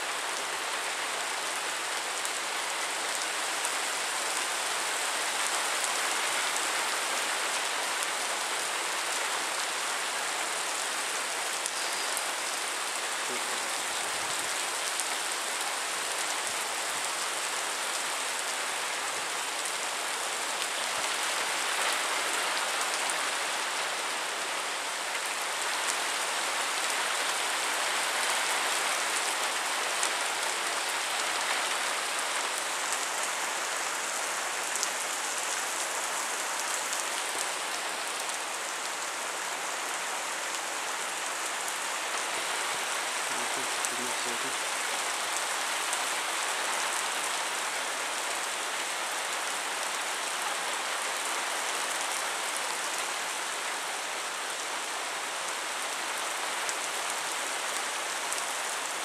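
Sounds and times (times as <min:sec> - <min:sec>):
heavy rain hissing: 0:00.0 - 0:51.2.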